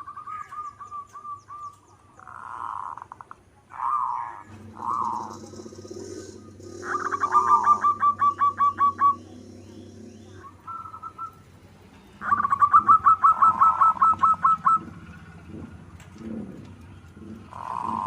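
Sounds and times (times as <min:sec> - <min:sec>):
dove cooing: 0:00.0 - 0:11.6, 0:12.2 - 0:18.0.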